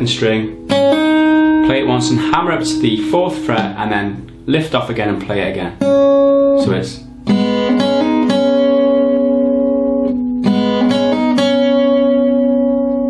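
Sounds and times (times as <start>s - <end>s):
fingerstyle acoustic guitar: 0.0s - 5.2s, 5.8s - 13.0s.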